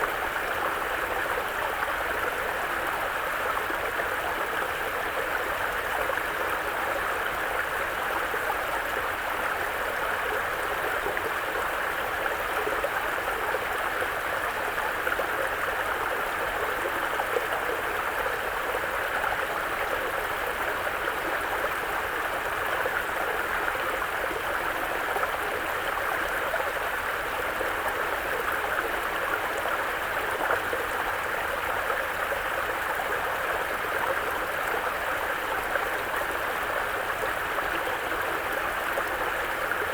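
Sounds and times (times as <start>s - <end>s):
brook flowing over rocks: 0.1s - 39.9s.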